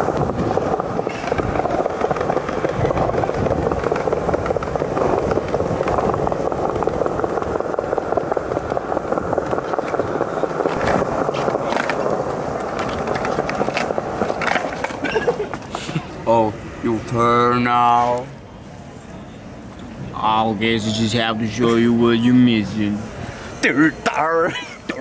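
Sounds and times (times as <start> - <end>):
skateboard wheels rolling on stone: 0.0 - 25.0.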